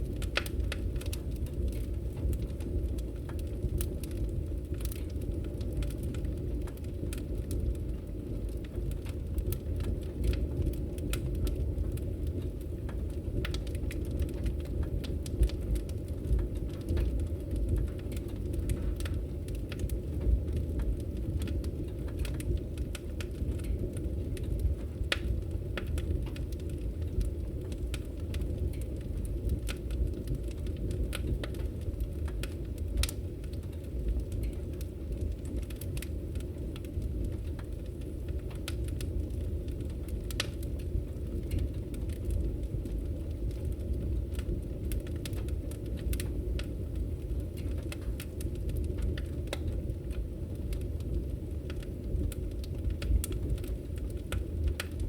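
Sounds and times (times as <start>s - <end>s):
firewood crackling and popping: 0.0s - 55.0s
low rumble of flames: 0.0s - 55.0s.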